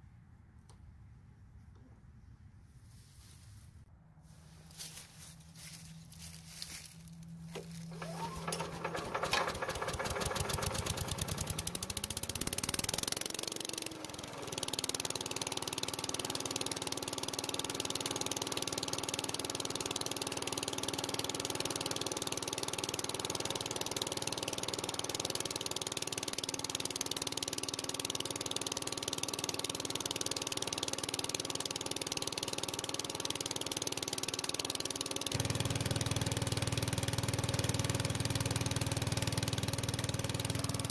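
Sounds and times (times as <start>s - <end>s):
leaf blower engine starting: 6.9s - 40.9s.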